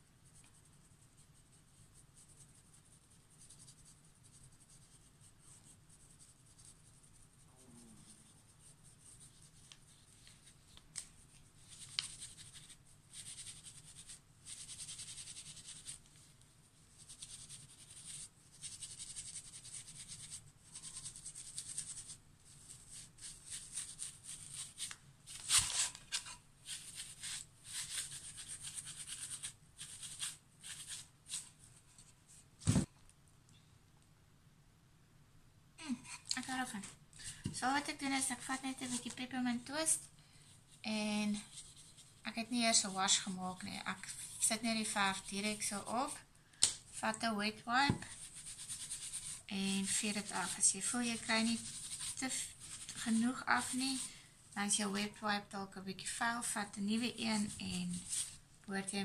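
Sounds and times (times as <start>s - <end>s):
paintbrush scratching: 0.0s - 32.4s, 37.6s - 40.0s, 40.7s - 46.2s, 46.9s - 55.0s, 56.4s - 58.4s.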